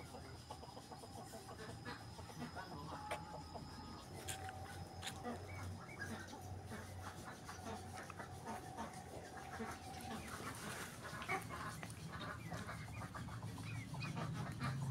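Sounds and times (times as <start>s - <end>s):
faint farmyard animal calls: 0.0s - 14.9s.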